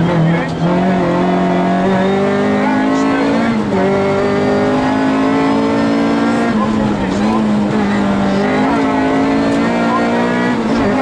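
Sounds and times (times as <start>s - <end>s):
car engine running hard: 0.0s - 11.0s.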